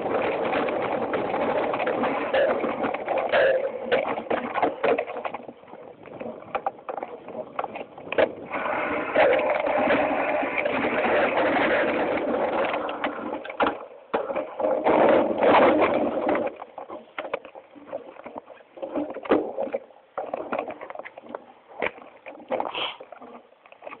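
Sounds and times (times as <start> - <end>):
bike rattling over rocks: 0.0 - 24.0
tyres on loose stones: 0.0 - 24.0.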